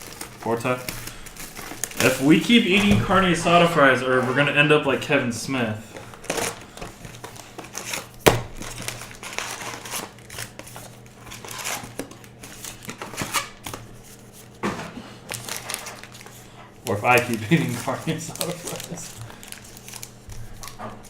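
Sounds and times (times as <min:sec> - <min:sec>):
wrapper crinkling: 0:00.0 - 0:14.6, 0:15.3 - 0:21.0.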